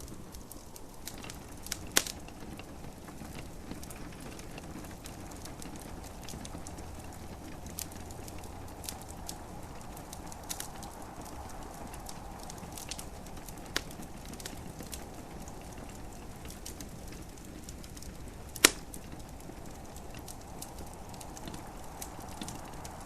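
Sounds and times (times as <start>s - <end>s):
gentle rain: 0.0s - 23.0s
wood fire crackling: 0.0s - 23.0s.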